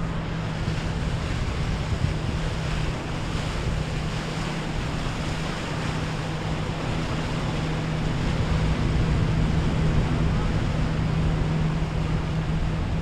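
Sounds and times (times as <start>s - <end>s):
boat wake rushing: 0.0s - 13.0s
outboard motor humming: 0.0s - 13.0s
wind on microphone: 0.0s - 13.0s.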